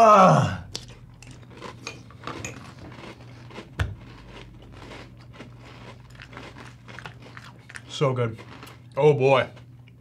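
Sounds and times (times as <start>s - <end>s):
crunchy cereal chewing: 0.7s - 9.7s.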